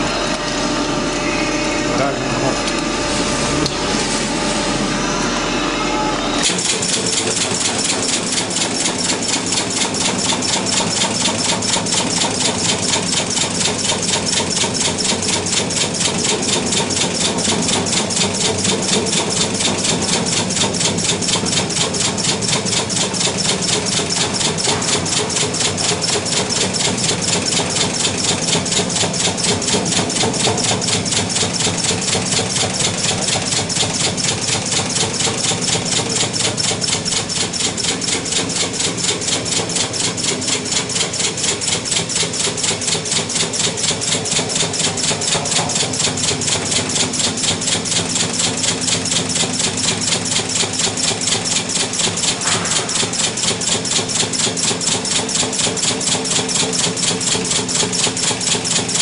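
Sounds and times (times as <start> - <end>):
metalworking machine pulsing: 0.0 - 59.0.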